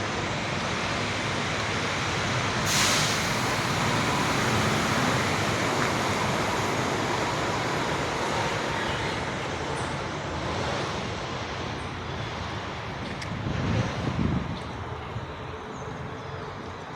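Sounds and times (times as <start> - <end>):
city road traffic rushing: 0.0 - 16.9.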